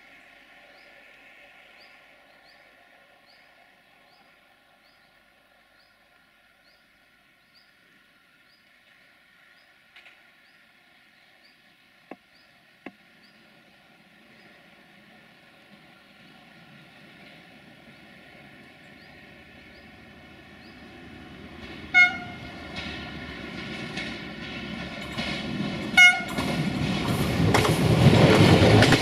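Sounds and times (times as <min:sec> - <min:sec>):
train low rumble: 0:00.0 - 0:29.0.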